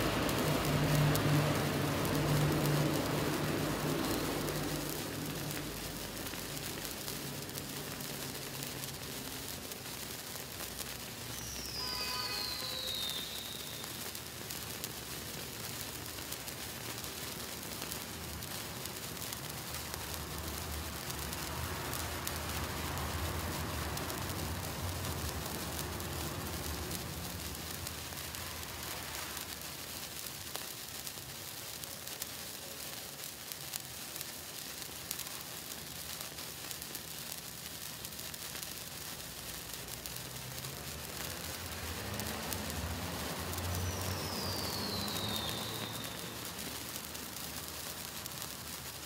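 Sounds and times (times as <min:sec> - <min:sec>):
sparkler fizzing and crackling: 0:00.0 - 0:49.0.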